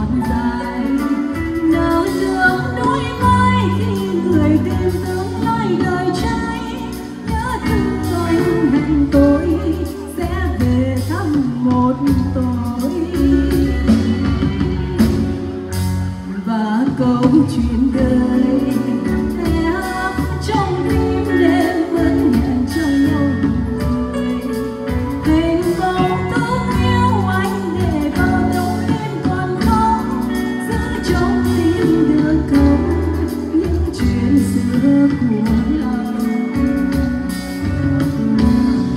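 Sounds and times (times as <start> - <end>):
woman singing: 0.0 - 15.4, 16.2 - 38.9
live band playing: 0.0 - 38.9.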